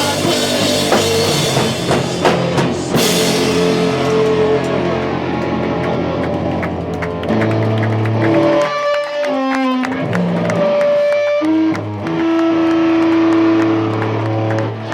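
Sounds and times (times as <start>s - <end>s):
electric guitar chords ringing: 0.0s - 14.9s
live rock band playing: 0.0s - 14.9s.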